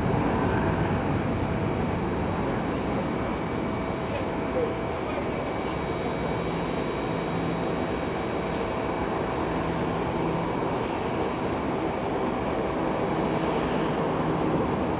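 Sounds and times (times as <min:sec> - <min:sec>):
faint steady whine: 0:00.0 - 0:14.9
jet engines rumbling: 0:00.0 - 0:14.9.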